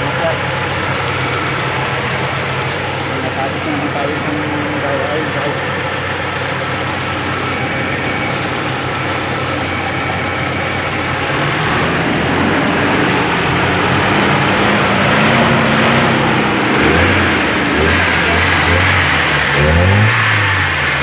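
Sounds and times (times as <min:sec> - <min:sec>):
pickup engine running: 0:00.0 - 0:21.0.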